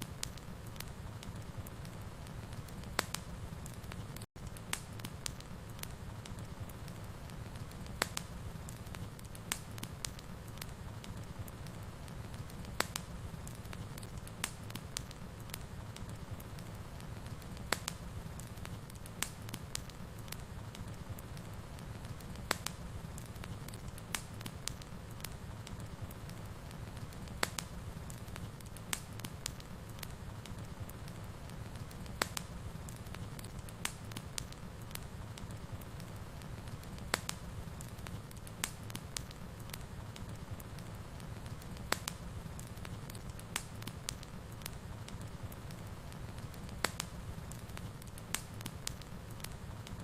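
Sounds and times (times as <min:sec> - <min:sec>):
fire crackling in fireplace: 0:00.0 - 0:50.0.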